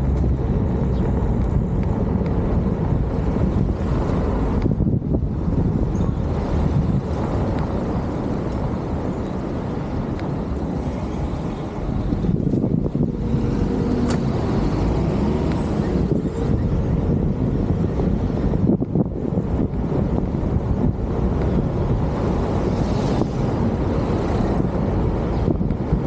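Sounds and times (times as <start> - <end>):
vehicle rumbling in motion: 0.0 - 26.0
wind on microphone: 0.0 - 26.0.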